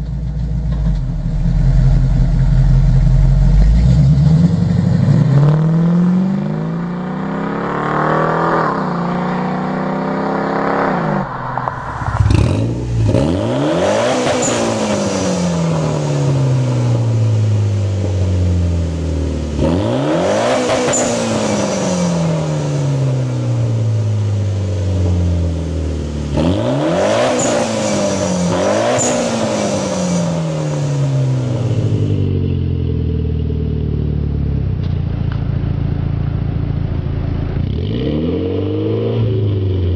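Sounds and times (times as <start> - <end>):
car engine revving: 0.6 - 39.9.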